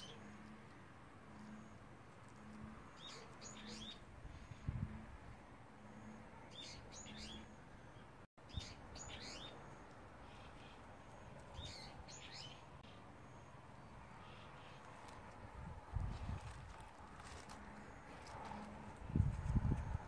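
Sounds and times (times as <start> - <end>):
small birds chirping: 0.0 - 5.2, 5.8 - 19.1.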